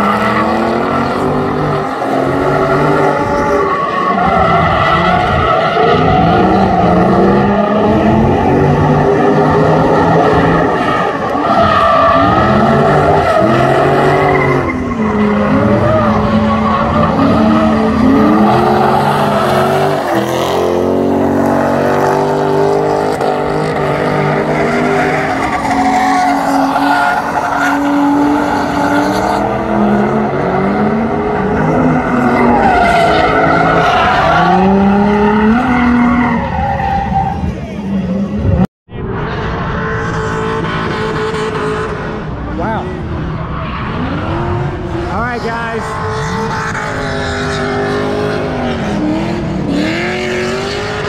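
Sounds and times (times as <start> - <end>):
car engine revving: 0.0 - 51.0
tires squealing: 0.0 - 51.0.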